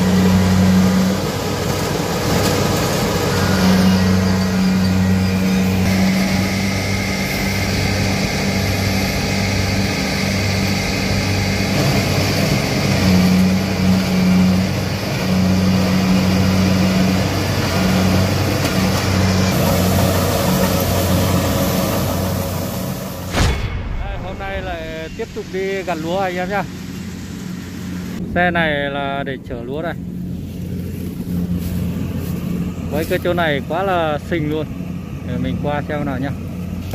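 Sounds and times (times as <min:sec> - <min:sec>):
constant rushing noise: 0:00.0 - 0:36.9
vehicle engine humming: 0:00.0 - 0:36.9.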